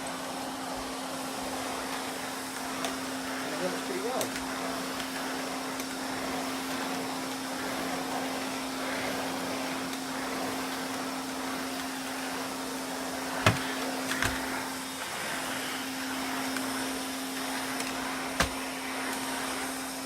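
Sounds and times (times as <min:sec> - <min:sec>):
canister vacuum running: 0:00.0 - 0:20.0.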